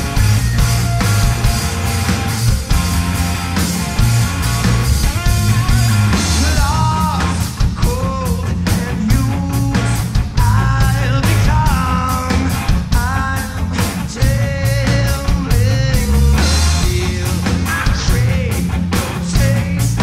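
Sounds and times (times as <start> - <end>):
drum beat: 0.0 - 18.3
live rock band playing: 0.0 - 20.0.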